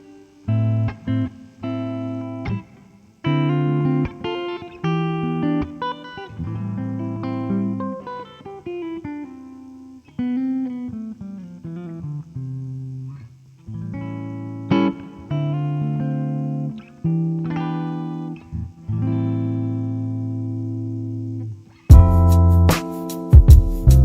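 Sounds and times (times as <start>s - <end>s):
electric guitar playing: 0.0s - 24.0s.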